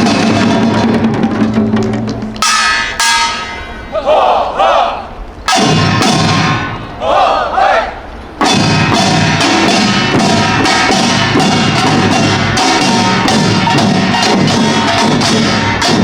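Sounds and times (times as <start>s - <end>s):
gongs and drums fast rhythm: 0.0s - 3.9s, 5.4s - 7.0s, 8.3s - 16.0s.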